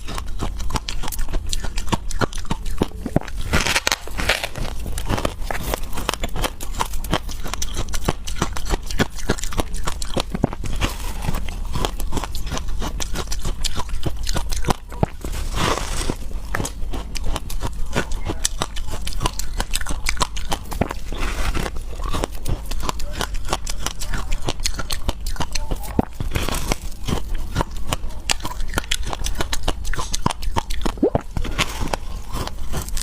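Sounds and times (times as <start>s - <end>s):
person chewing frost crunching: 0.0s - 33.0s.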